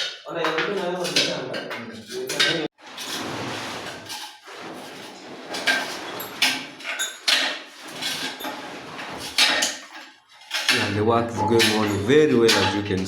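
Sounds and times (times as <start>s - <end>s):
hand tools scraping tiles: 0.0s - 13.0s.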